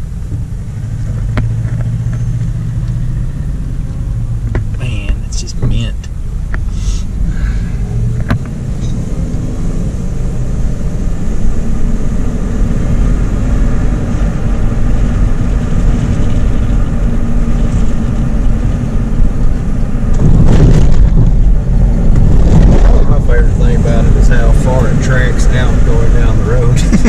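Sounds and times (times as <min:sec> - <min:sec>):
vehicle engine and road noise: 0:00.0 - 0:27.0.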